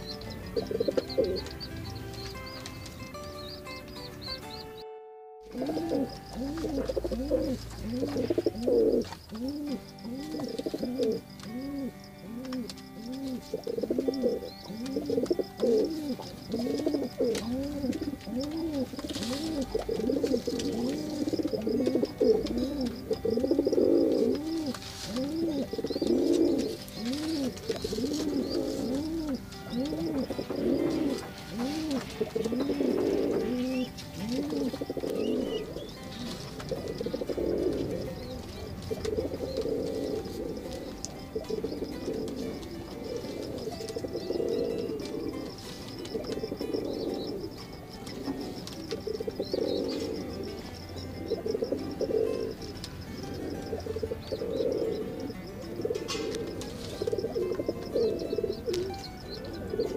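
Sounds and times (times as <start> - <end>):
pigeons cooing: 0.0 - 4.8, 5.5 - 59.9.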